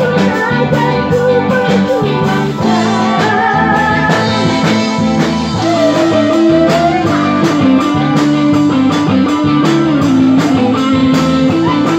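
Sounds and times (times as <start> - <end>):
guitar melodic lead: 0.0 - 11.9
steady beat: 1.8 - 11.9.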